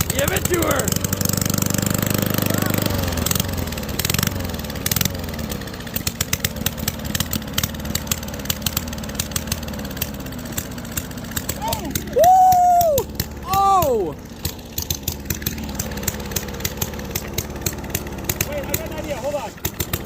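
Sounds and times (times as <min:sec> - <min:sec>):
exhaust cracks: 0:00.0 - 0:20.0
lawn mower engine running: 0:00.0 - 0:20.0.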